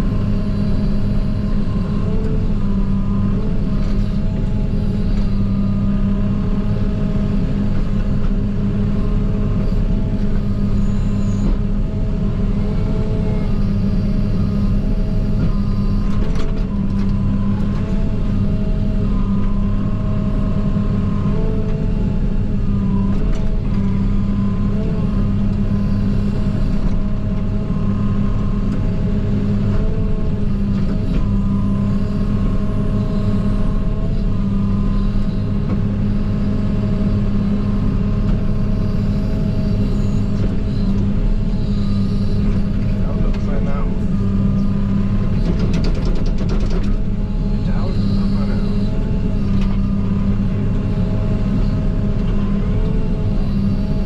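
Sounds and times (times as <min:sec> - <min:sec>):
diesel engine running: 0:00.0 - 0:54.0
hydraulic whine: 0:00.0 - 0:54.0.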